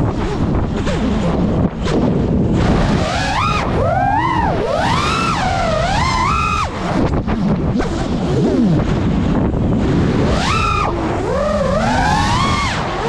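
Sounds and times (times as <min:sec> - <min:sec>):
drone propeller whine: 0:00.0 - 0:13.0
wind rumble on microphone: 0:00.0 - 0:13.0.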